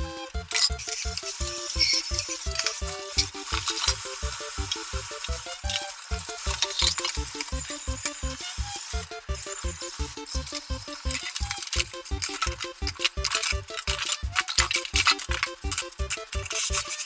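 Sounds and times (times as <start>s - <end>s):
background music with beat: 0.0s - 17.0s.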